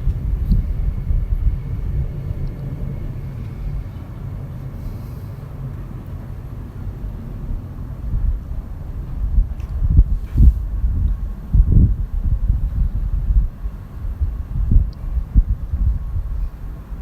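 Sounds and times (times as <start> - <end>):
gusty wind: 0.0 - 17.0
jet engine rumble: 0.0 - 17.0.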